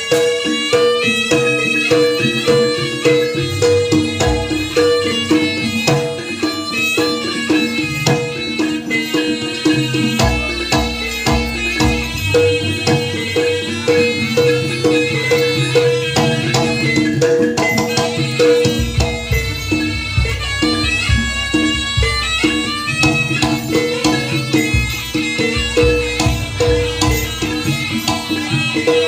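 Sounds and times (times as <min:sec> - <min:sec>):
hand drums beating: 0:00.0 - 0:29.0
reedy wind instrument melody: 0:00.0 - 0:29.0.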